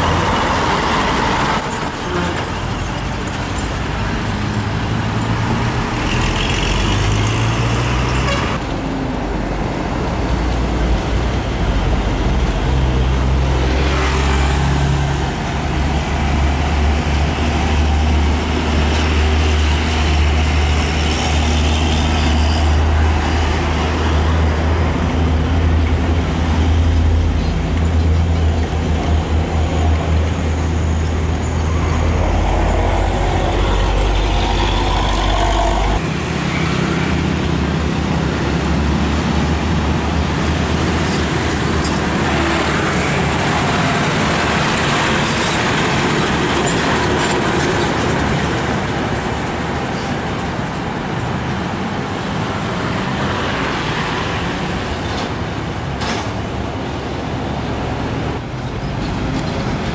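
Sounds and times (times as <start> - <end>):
diesel trucks passing: 0.0 - 59.9.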